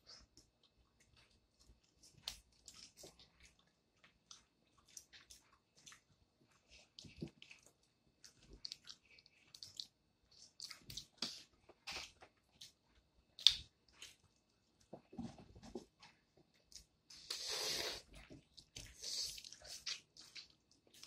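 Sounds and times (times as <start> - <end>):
close chewing: 0.0 - 15.3, 16.0 - 21.0.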